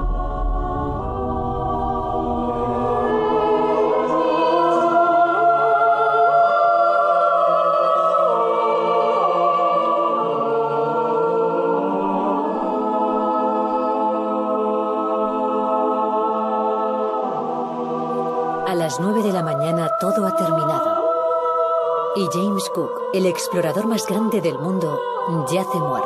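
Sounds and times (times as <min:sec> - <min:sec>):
choir singing long notes: 0:00.0 - 0:26.0.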